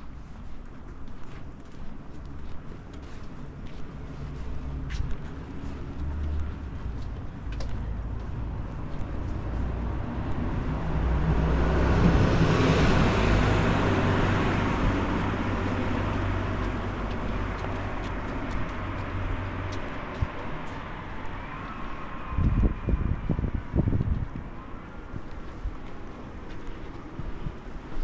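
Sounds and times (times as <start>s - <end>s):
vehicle passing on street: 0.0s - 28.0s.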